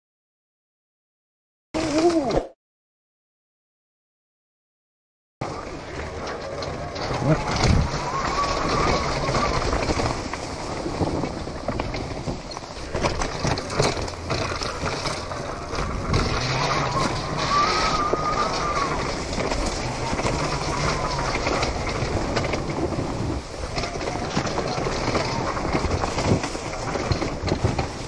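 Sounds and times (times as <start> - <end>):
bike knocks and rattles: 5.4 - 28.0
rush of riding noise: 5.4 - 28.0.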